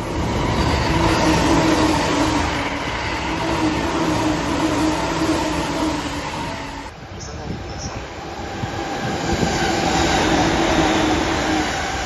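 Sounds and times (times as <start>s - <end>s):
train rushing past: 0.0s - 12.0s.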